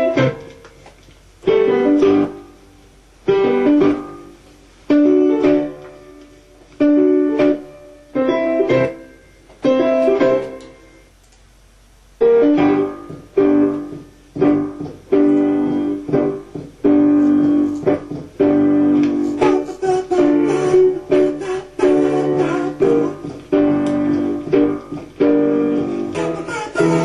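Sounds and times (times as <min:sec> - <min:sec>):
piano chords ringing: 0:00.0 - 0:00.7, 0:01.4 - 0:11.2, 0:12.2 - 0:27.0.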